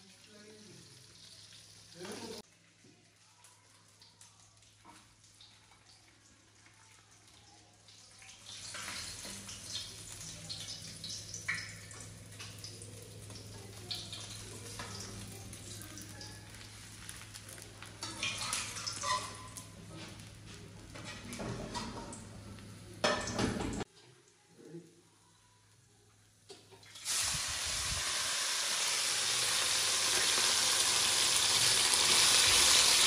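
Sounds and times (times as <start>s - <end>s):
fish sizzling in hot oil: 0.0s - 22.2s, 26.8s - 33.0s.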